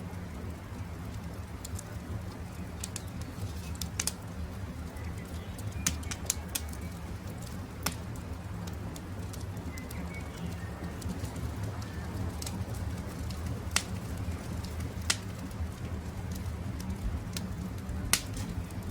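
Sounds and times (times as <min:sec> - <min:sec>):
campfire crackling: 0:00.0 - 0:18.9.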